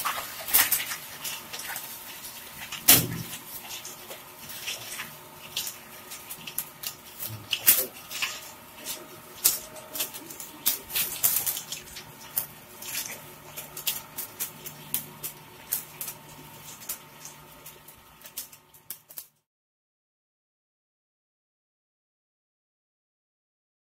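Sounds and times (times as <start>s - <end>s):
shredder motor hum: 0.0s - 19.2s
plastic crackling and snapping: 0.0s - 19.4s.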